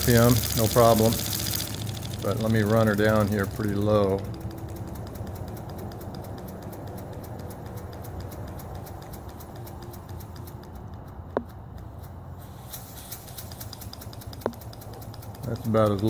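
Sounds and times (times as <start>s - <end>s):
model steam engine ticking and puffing: 0.0s - 16.0s.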